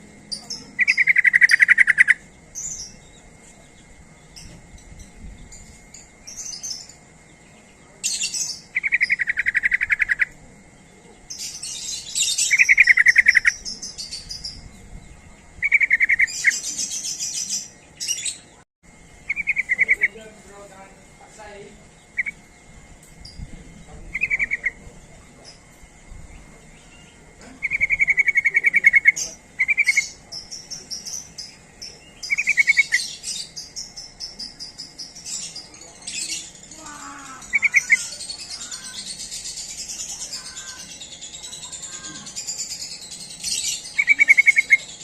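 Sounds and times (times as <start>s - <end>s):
bird trilling song: 0.0s - 18.6s, 19.2s - 45.0s
high twittering bird chatter: 0.0s - 45.0s.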